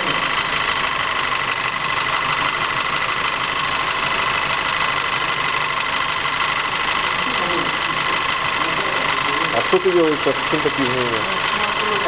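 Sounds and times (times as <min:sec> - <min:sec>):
car engine knocking: 0:00.0 - 0:12.0.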